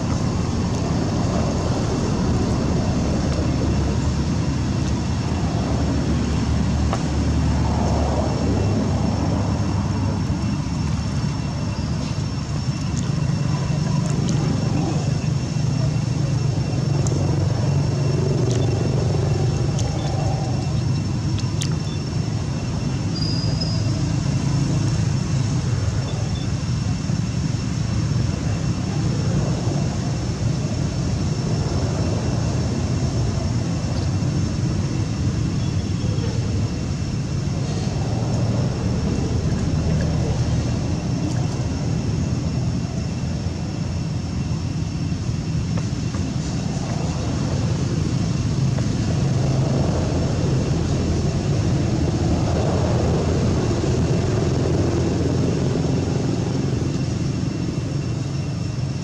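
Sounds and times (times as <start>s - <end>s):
low rumble: 0.0s - 21.6s, 28.2s - 57.8s.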